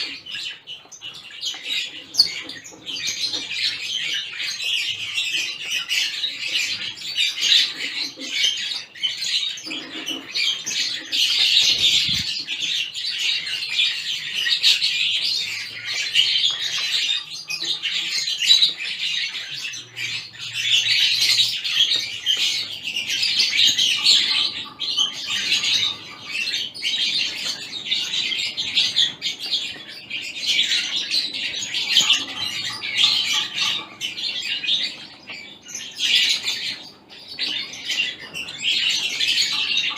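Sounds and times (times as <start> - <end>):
flock of finches chirping: 0.0 - 39.9.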